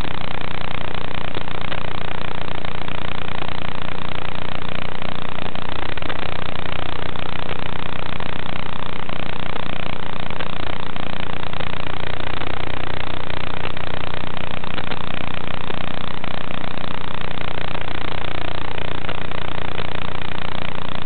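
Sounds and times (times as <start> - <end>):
loud radio receiver hiss: 0.0 - 21.0
low electrical buzz: 0.0 - 21.0.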